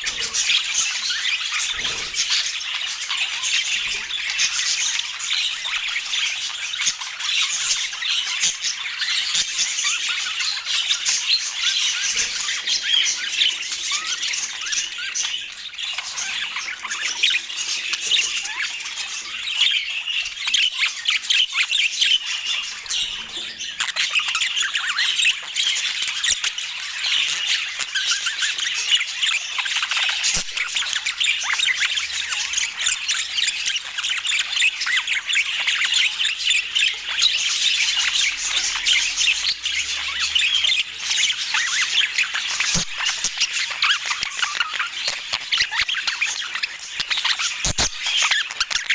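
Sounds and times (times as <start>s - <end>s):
budgerigars chirping and warbling: 0.0s - 48.9s.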